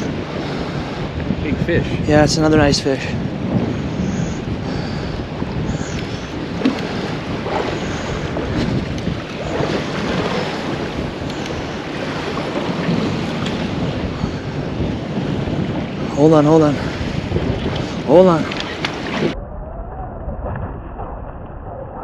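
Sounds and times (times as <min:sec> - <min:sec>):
water washing along hull: 0:00.0 - 0:19.4
wind buffeting microphone: 0:00.0 - 0:22.0.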